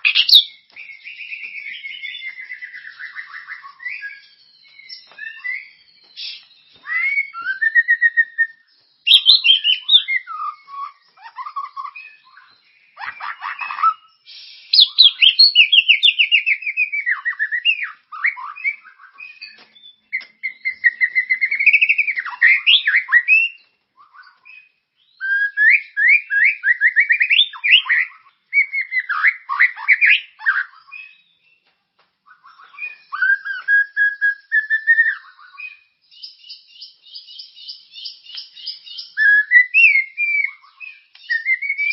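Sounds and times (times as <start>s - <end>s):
songbird song: 0.0s - 41.9s.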